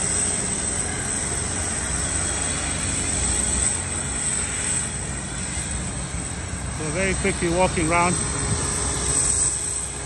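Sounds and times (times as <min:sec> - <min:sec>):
auxiliary power unit whine and rumble: 0:00.0 - 0:10.0.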